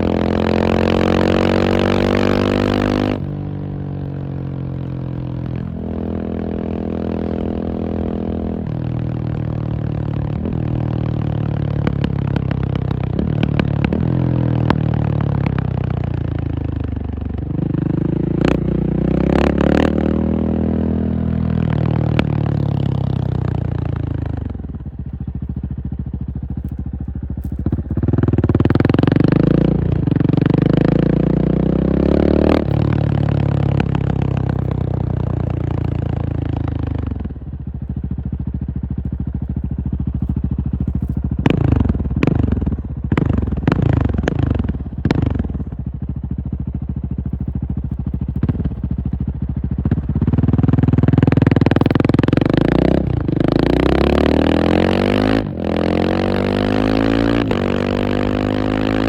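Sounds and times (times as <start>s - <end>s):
motorcycle engine pulling hard: 0.0s - 59.0s.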